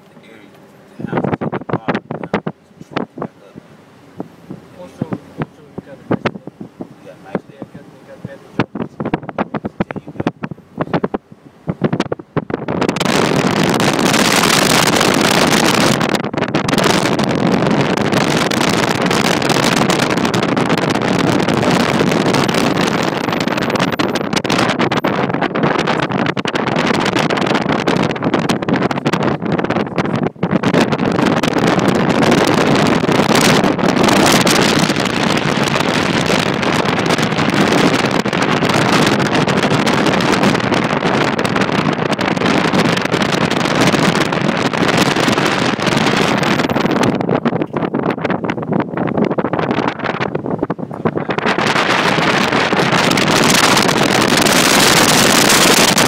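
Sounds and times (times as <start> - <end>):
car driving: 0.0 - 56.0
wind buffeting microphone: 0.0 - 56.0.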